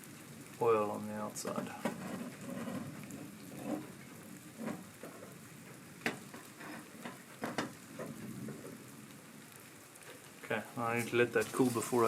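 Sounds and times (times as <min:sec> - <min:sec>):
oil sizzling on hot steel: 0:00.0 - 0:12.0.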